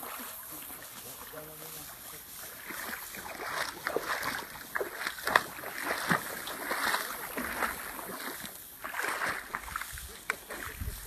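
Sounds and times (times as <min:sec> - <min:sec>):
tall grass swishing and crackling: 0:00.0 - 0:11.0.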